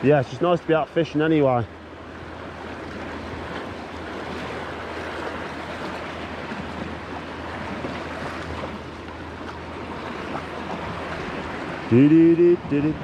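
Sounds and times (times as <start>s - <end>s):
sea water lapping on rocks: 0.0s - 13.0s
wind: 0.0s - 13.0s.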